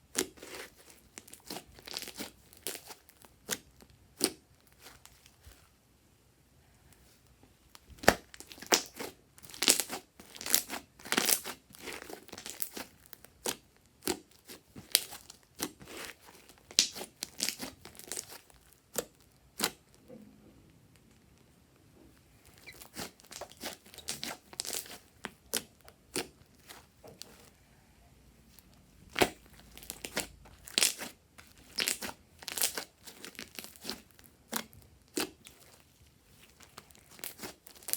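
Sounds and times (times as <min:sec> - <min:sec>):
slime crackling and popping: 0:00.1 - 0:05.6, 0:07.7 - 0:20.0, 0:22.3 - 0:27.5, 0:28.5 - 0:37.9.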